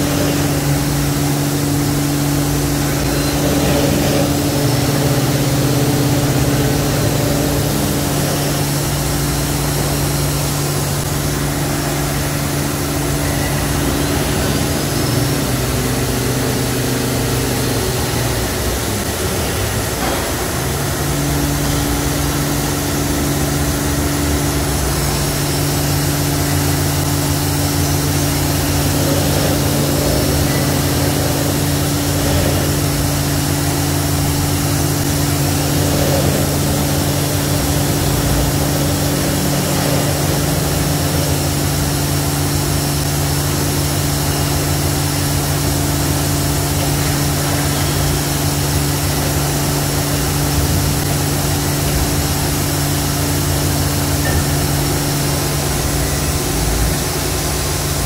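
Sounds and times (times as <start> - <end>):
machine spindle humming: 0.0 - 58.0.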